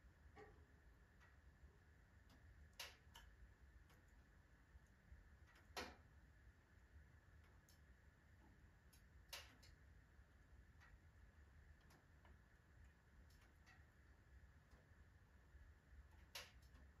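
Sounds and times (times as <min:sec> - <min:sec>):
firewood crackling in a stove: 0:00.0 - 0:17.0.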